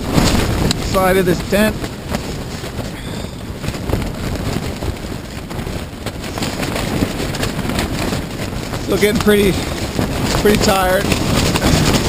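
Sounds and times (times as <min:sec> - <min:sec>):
strong wind gusting: 0:00.0 - 0:12.0
tent walls flapping and rattling: 0:00.0 - 0:12.0.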